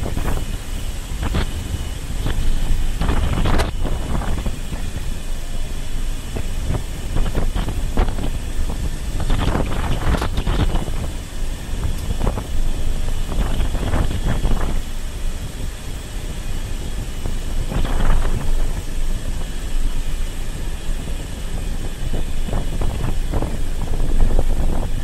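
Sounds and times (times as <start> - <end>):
low rumble of vehicle ride: 0.0 - 25.0
wind buffeting microphone: 0.0 - 25.0.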